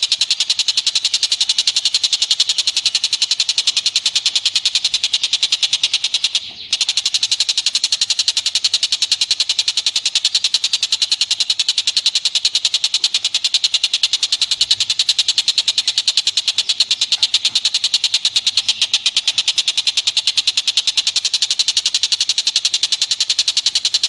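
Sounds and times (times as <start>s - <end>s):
animal chattering trill: 0.0s - 24.0s.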